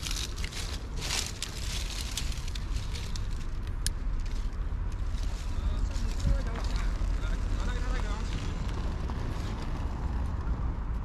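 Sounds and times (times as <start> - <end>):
twigs crackling in fire: 0.0 - 10.8
steady low rumble: 0.0 - 11.0.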